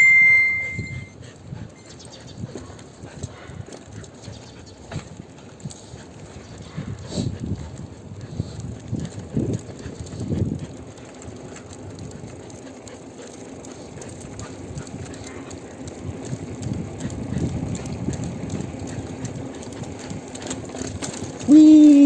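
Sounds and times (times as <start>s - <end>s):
bicycle rolling on road: 1.2s - 22.0s.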